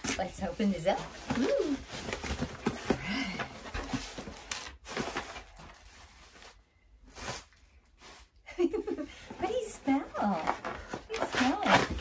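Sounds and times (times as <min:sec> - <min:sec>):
cardboard and paper rustling: 0:00.0 - 0:12.0.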